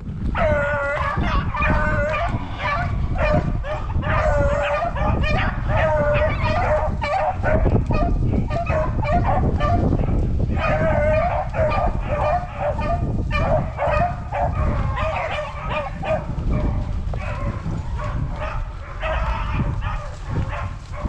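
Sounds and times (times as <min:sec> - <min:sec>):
steady low rumble: 0:00.0 - 0:21.0
hounds baying and yelping: 0:00.3 - 0:21.0.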